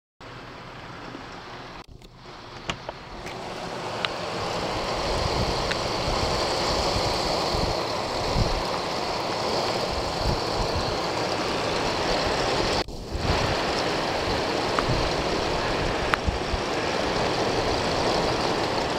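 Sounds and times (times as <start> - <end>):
gusting wind: 0.2 - 18.9
heavy rain pouring: 0.2 - 18.9.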